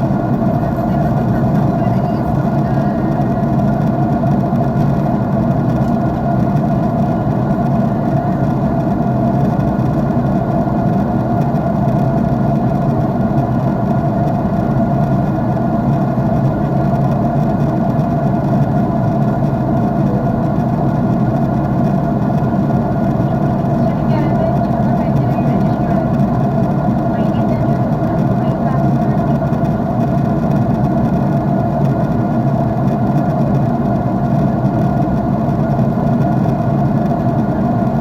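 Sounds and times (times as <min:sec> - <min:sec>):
jet engine cabin drone: 0:00.0 - 0:38.0.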